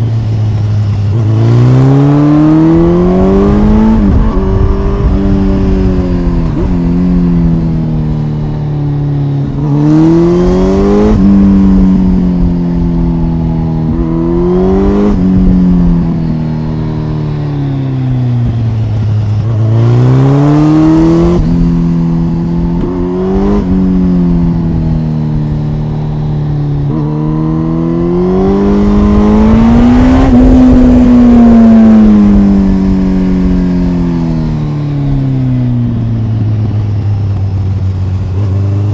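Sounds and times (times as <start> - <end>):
motorcycle engine and exhaust: 0.0 - 38.9
wind noise: 0.7 - 38.9.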